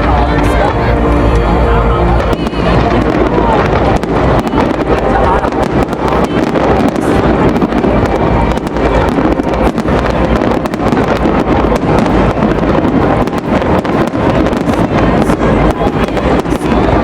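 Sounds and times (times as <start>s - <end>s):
constant rumble: 0.0s - 17.0s
fireworks bangs and crackles: 0.0s - 17.0s
wind buffeting microphone: 0.0s - 17.0s.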